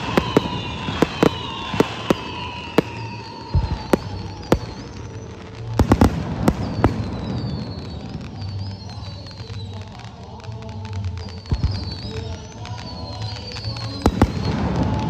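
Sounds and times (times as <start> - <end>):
firework bangs: 0.0 - 15.0
firework whistles: 0.0 - 15.0.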